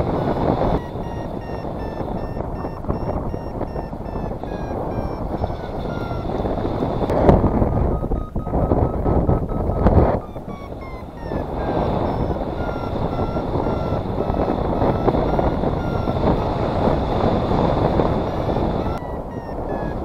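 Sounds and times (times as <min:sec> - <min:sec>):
variometer beeping: 0:00.0 - 0:20.0
wind rushing over microphone: 0:00.0 - 0:20.0.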